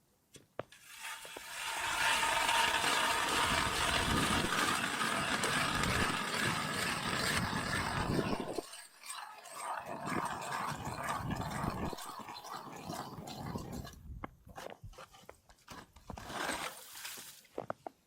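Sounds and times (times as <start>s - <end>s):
ice auger grinding through ice: 0.8s - 17.4s.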